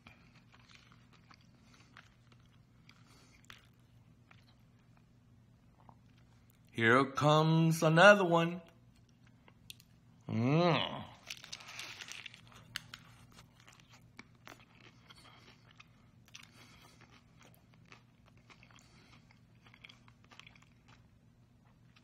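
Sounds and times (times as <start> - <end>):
crunchy food chewing: 0.0 - 6.7, 11.1 - 22.0
faint steady hum: 0.0 - 22.0.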